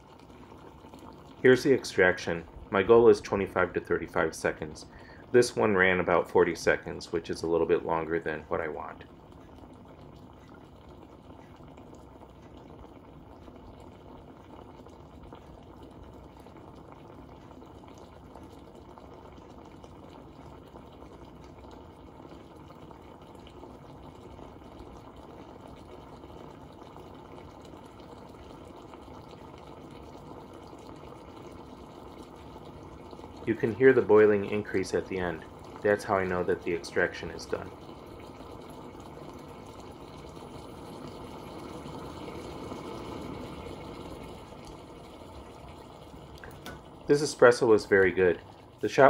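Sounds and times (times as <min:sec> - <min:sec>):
water bubbling in espresso maker: 0:00.0 - 0:49.0.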